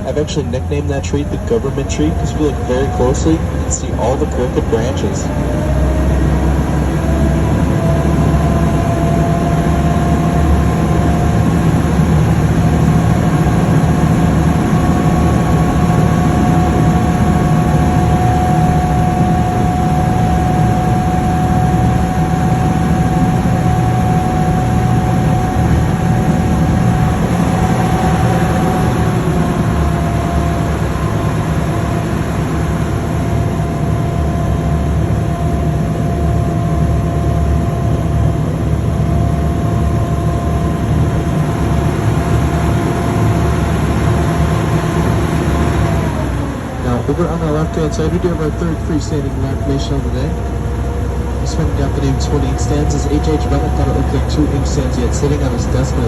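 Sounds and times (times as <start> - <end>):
boat engine low drone: 0.0 - 56.0
engine whine: 0.0 - 56.0.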